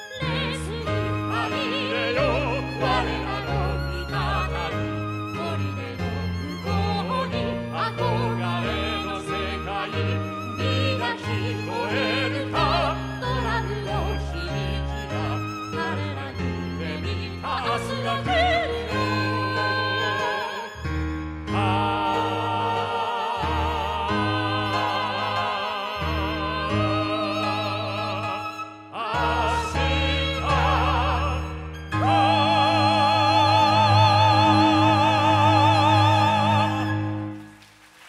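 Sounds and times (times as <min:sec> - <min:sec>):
singers with wide vibrato: 0:00.0 - 0:37.5
piano: 0:00.0 - 0:38.0
violin: 0:00.0 - 0:38.0.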